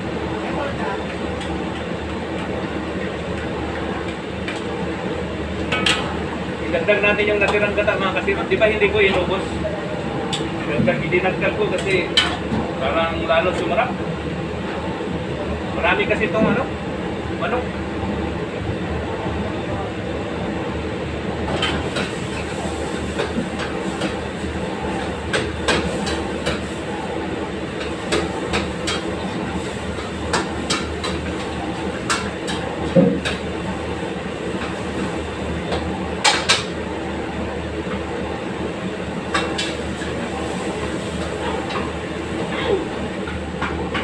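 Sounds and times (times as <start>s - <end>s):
gas range rumble and hum: 0.0s - 44.0s.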